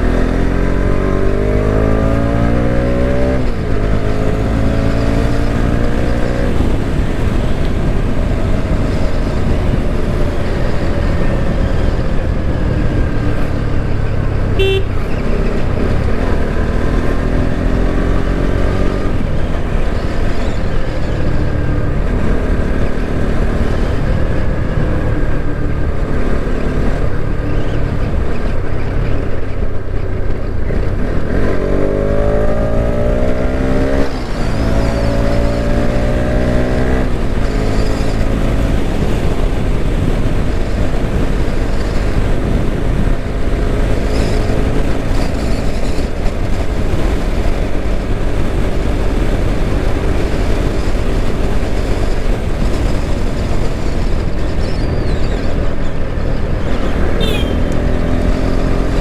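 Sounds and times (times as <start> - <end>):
motorcycle engine accelerating: 0.0 - 59.0
wind on microphone: 1.0 - 59.0.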